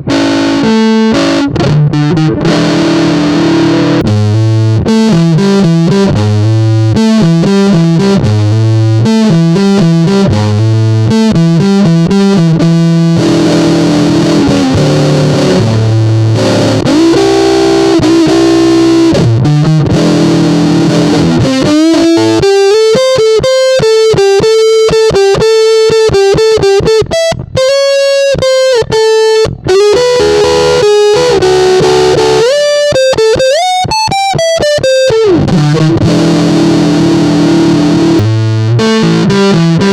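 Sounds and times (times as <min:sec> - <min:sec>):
fuzz electric guitar riff: 0:00.0 - 0:39.9
guitar blues licks with bends: 0:00.0 - 0:39.9.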